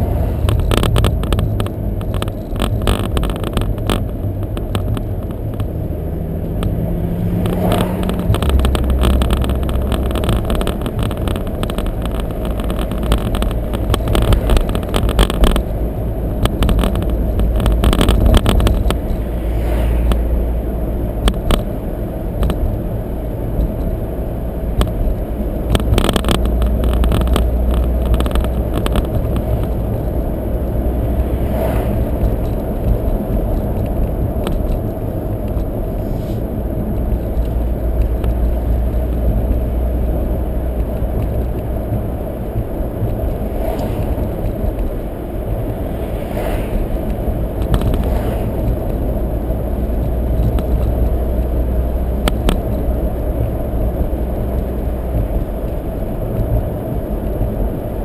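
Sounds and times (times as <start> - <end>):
engine and tyre rumble: 0.0 - 58.0.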